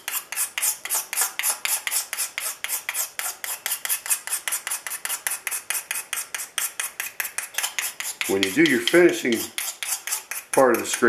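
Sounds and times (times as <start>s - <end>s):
blade scraping wood: 0.0s - 11.0s.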